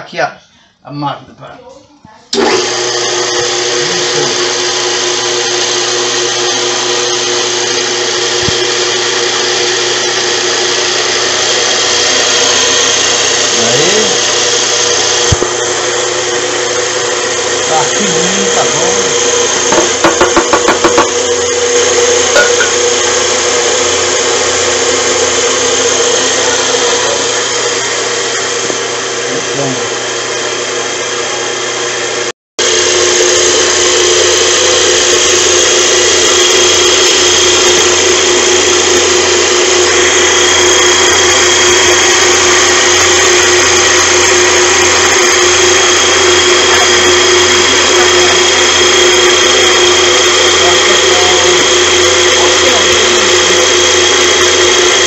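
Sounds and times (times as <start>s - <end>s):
electric coffee grinder running: 2.3s - 55.0s.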